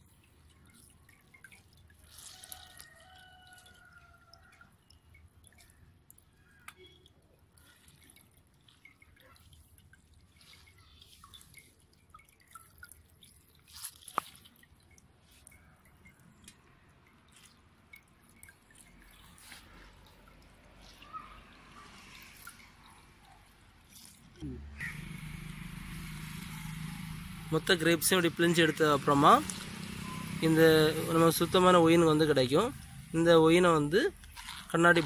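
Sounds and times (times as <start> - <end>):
juice dripping and trickling: 0.0 - 35.0.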